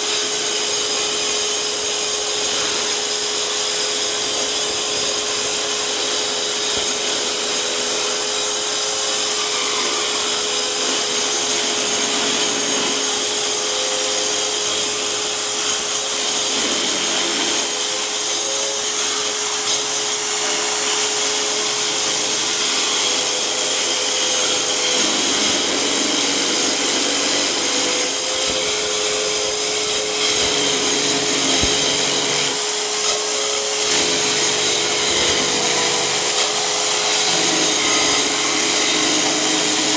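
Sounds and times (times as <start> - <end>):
circular saw cutting: 0.0 - 39.9.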